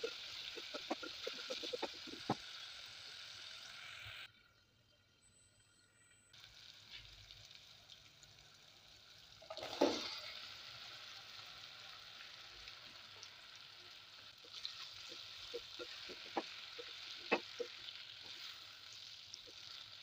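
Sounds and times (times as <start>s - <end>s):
food sizzling in oil: 0.0s - 4.3s, 6.4s - 20.0s.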